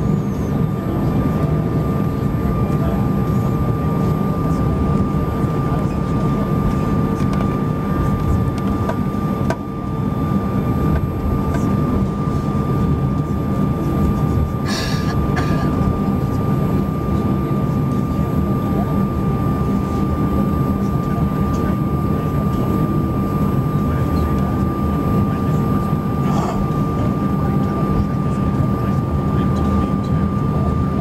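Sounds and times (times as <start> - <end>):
jet engines idling whine: 0.0 - 31.0.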